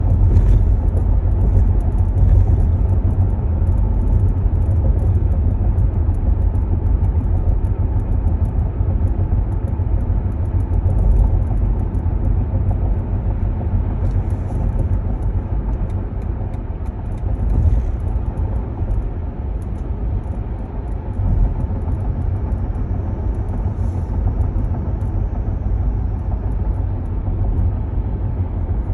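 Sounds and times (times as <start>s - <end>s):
electric car road rumble: 0.0s - 28.9s.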